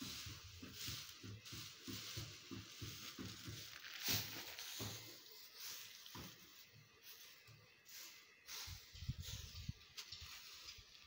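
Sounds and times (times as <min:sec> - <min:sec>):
dry husks rustling: 0:00.0 - 0:11.0.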